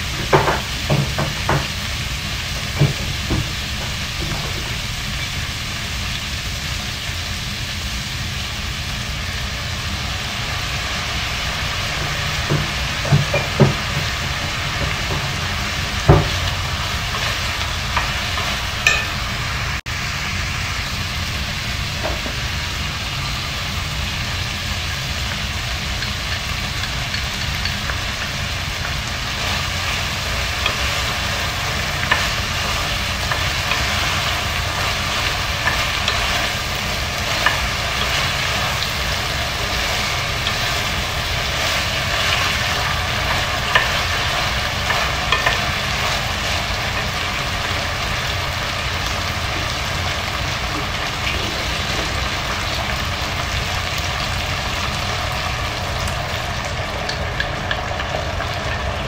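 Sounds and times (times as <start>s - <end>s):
food sizzling in a pot: 0.0s - 59.0s
steady low hum: 0.0s - 59.0s.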